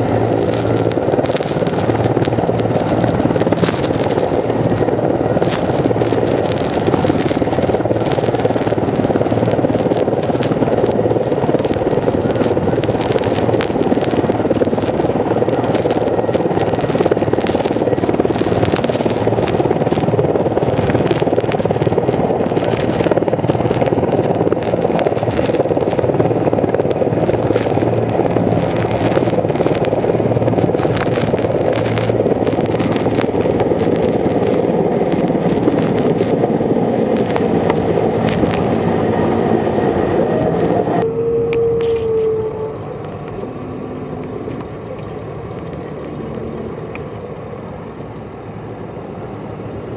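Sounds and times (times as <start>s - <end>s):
helicopter rotor and engine: 0.0s - 49.9s.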